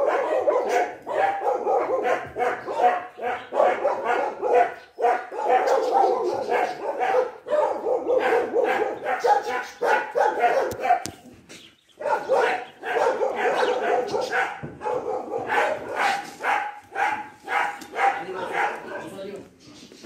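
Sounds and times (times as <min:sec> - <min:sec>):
dog play-barking: 0:00.0 - 0:11.1, 0:12.0 - 0:19.1.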